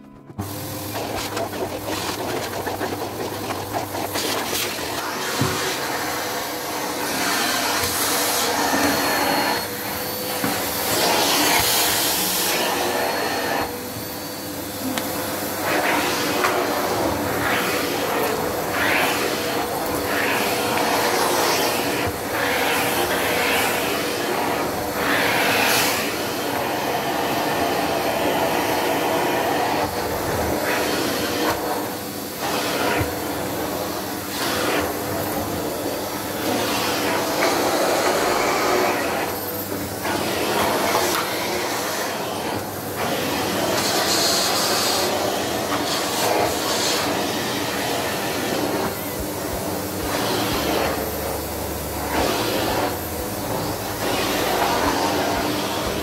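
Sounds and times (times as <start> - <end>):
vacuum cleaner on a rug: 0.0 - 56.0.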